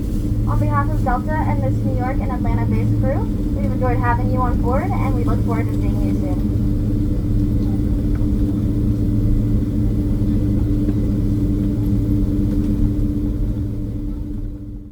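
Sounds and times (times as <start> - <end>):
aircraft engine rumble: 0.0 - 14.9
constant cabin drone: 0.0 - 14.9.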